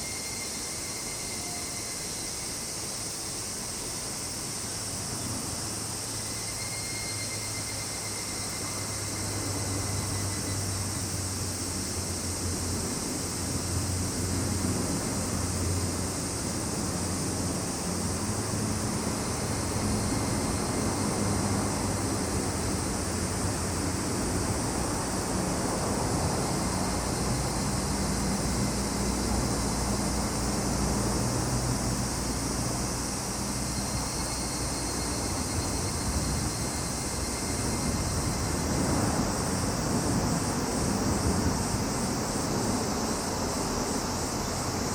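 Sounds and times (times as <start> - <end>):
cicadas and crickets buzzing: 0.0 - 44.9.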